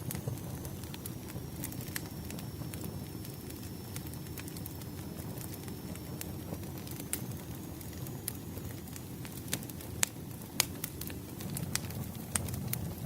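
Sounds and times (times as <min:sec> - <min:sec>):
fire crackling and popping: 0:00.0 - 0:13.0
flames rustling: 0:00.0 - 0:13.0.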